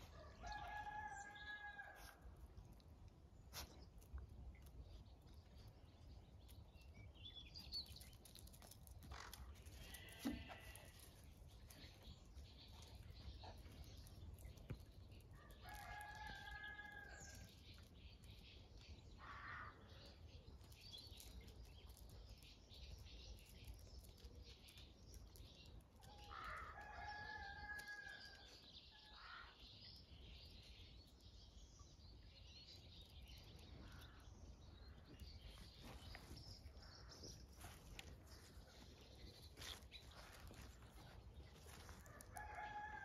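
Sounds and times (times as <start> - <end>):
farmyard background: 0.0 - 43.0.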